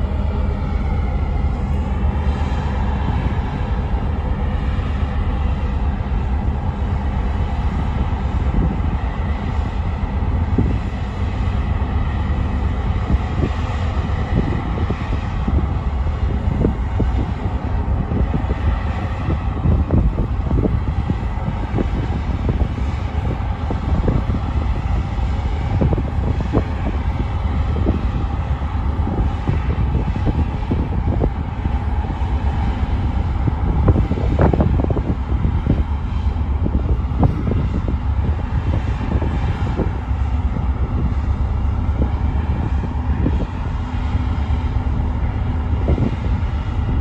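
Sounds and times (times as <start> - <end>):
ship engines rumbling: 0.0 - 47.0.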